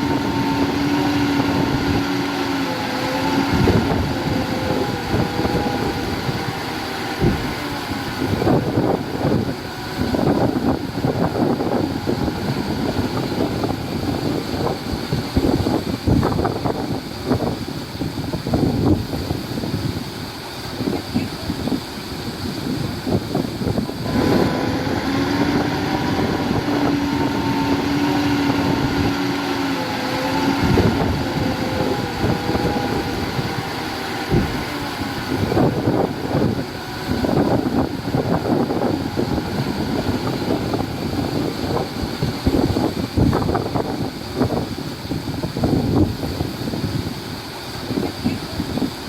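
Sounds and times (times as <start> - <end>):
diesel engine humming: 0.0 - 49.0
wind buffeting microphone: 0.0 - 49.0.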